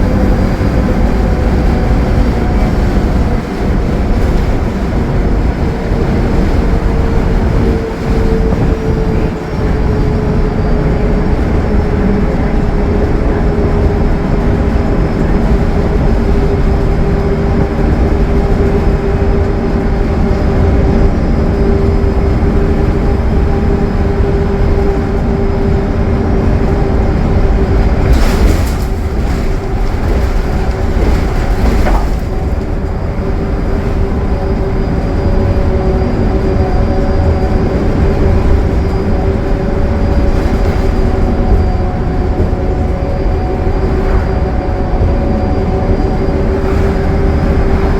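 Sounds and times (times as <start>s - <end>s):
bus diesel engine running: 0.0s - 47.9s
low road rumble: 0.0s - 47.9s
steady whine: 0.0s - 47.9s.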